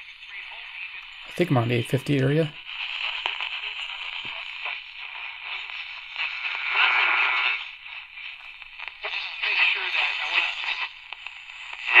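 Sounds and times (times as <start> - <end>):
radio static hiss while tuning: 0.0 - 12.0.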